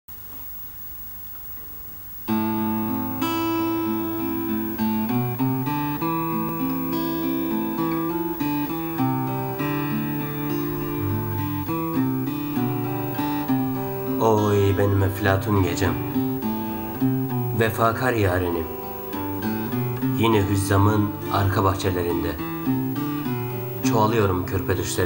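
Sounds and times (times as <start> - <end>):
acoustic guitar playing: 1.4 - 25.0.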